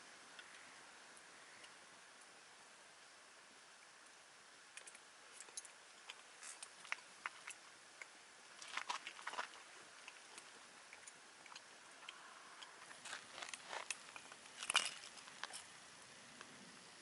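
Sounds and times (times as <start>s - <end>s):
campfire crackling: 0.0s - 17.0s
soft hiss: 0.0s - 17.0s.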